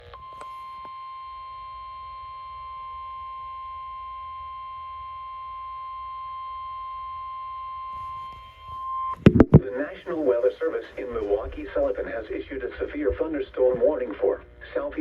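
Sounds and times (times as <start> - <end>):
low receiver hum: 0.0 - 15.0
steady high warning tone: 0.0 - 15.0.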